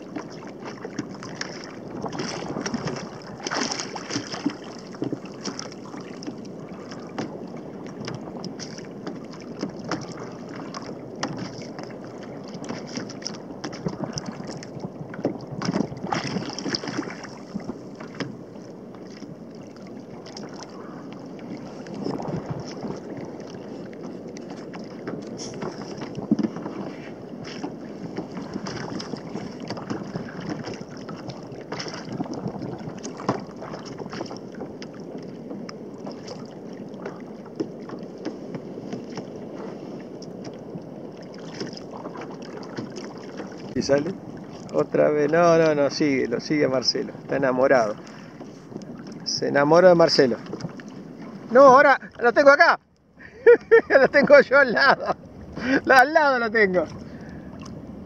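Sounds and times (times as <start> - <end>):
waves lapping against hull: 0.0 - 58.0
wind buffeting microphone: 0.0 - 58.0.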